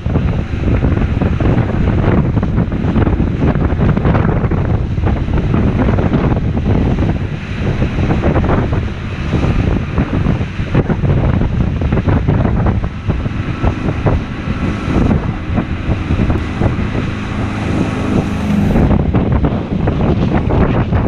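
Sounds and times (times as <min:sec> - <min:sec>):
waves splashing against hull: 0:00.0 - 0:20.7
boat engine running: 0:00.0 - 0:21.0
wind buffeting microphone: 0:00.0 - 0:21.0.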